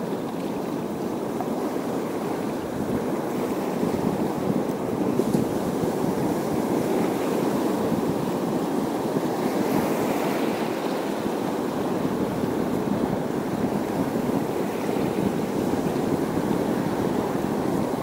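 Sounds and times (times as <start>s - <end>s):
surf washing against rocks: 0.0s - 18.0s.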